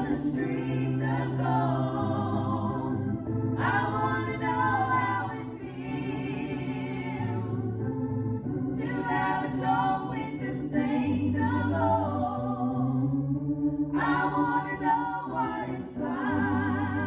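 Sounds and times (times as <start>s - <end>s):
voices singing with vibrato: 0.0s - 7.9s, 8.8s - 13.1s, 14.0s - 17.0s
organ accompaniment: 0.0s - 17.0s.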